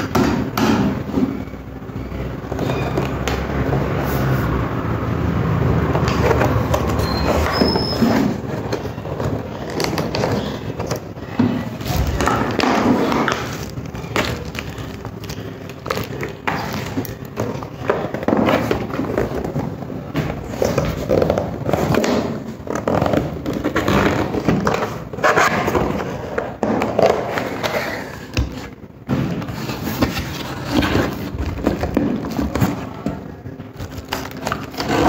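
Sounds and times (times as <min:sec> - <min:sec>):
cardboard scraping on table: 0:05.9 - 0:32.9, 0:33.8 - 0:35.0.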